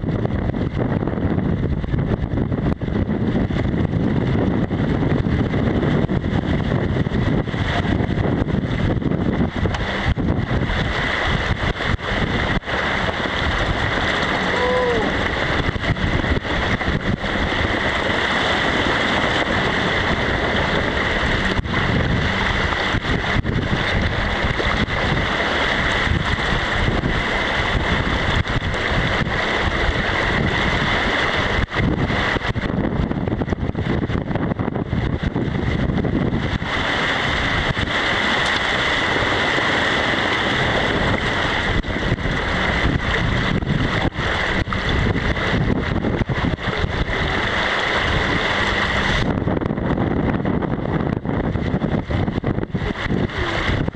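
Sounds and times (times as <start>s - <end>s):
water splashing along hull: 0.0s - 53.9s
wind on microphone: 0.0s - 53.9s.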